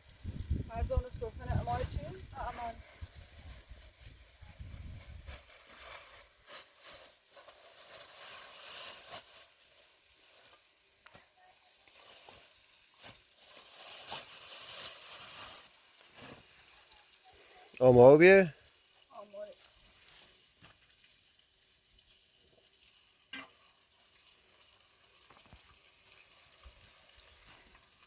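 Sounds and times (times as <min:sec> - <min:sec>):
faint sizzling with crackles: 0:00.0 - 0:28.0.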